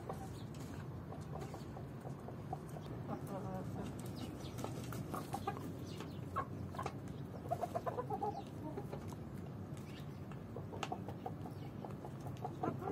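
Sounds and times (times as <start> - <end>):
chickens clucking: 0.0 - 12.9.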